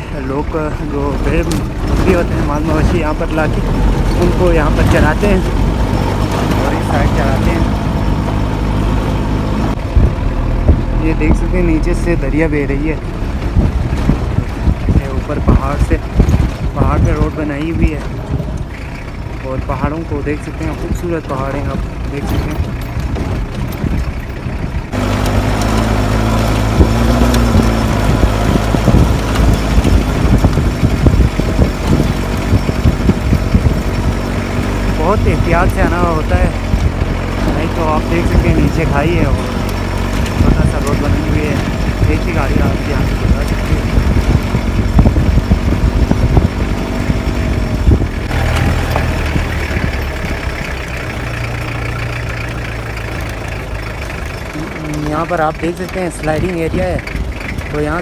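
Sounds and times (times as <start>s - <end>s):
tyres on gravel: 0.0s - 9.7s, 11.0s - 58.0s
vehicle engine running: 0.0s - 58.0s
knocks and rattles from bumps: 0.2s - 58.0s.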